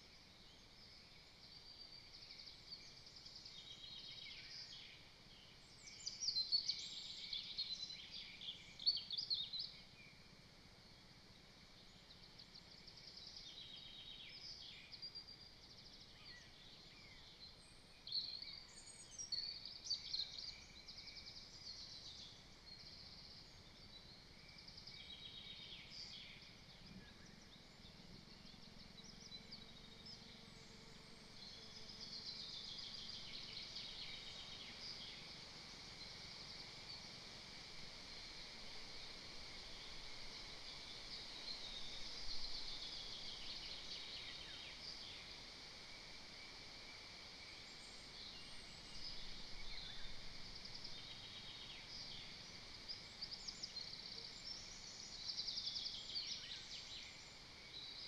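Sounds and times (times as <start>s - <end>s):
faint outdoor hiss: 0.0s - 58.0s
small birds singing and chirping: 0.0s - 58.0s.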